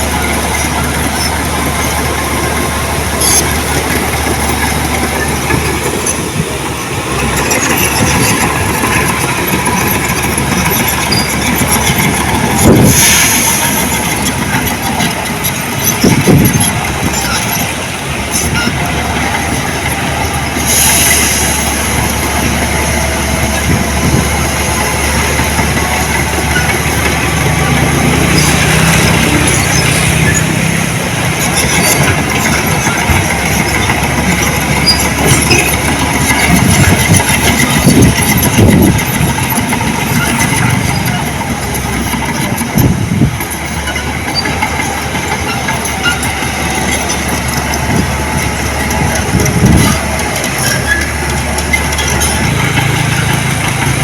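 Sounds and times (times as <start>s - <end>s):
heavy diesel machinery running: 0.0s - 54.0s
machinery clanks: 0.0s - 54.0s.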